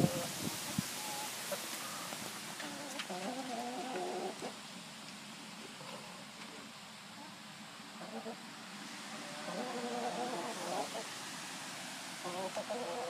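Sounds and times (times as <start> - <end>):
chickens clucking and squawking: 0.0 - 4.9, 5.5 - 11.4, 12.0 - 13.0.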